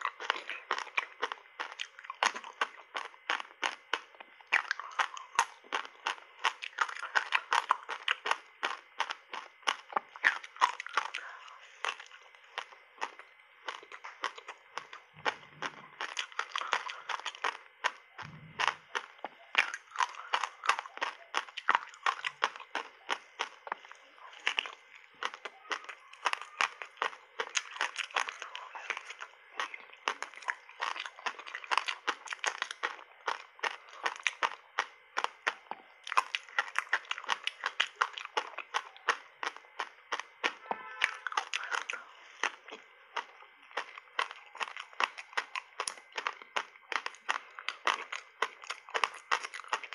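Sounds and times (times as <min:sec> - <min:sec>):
ice crunching while chewed: 0:00.0 - 0:49.9.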